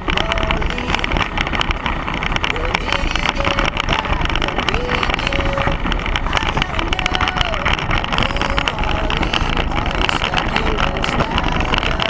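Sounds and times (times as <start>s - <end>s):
cart body rattling and knocking: 0.0s - 12.0s
hard wheels rumbling on road: 0.0s - 12.0s
wind buffeting microphone: 0.0s - 12.0s.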